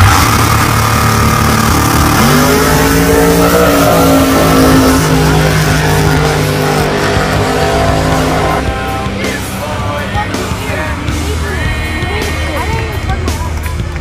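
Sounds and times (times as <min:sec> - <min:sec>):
drag racing car engine: 0:00.0 - 0:14.0.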